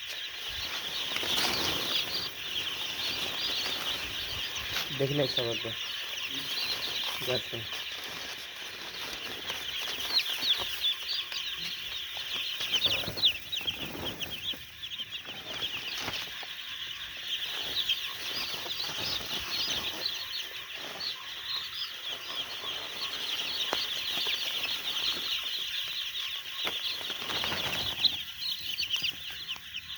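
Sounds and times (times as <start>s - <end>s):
chicks peeping: 0.0s - 29.9s.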